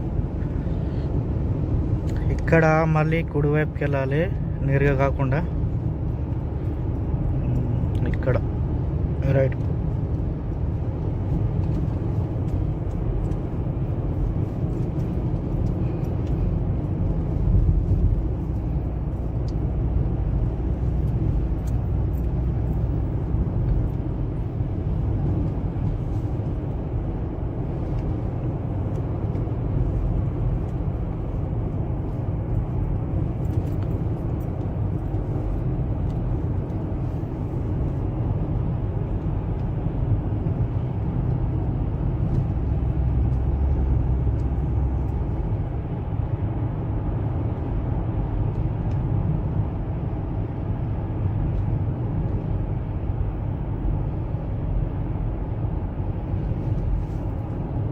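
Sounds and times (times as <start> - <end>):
car road rumble: 0.0 - 57.9.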